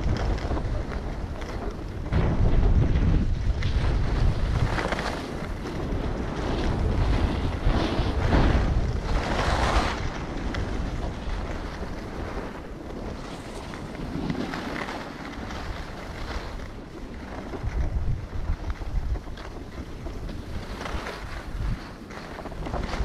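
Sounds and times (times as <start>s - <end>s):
skis scraping on snow: 0.0s - 23.0s
wind rushing over microphone: 0.0s - 23.0s.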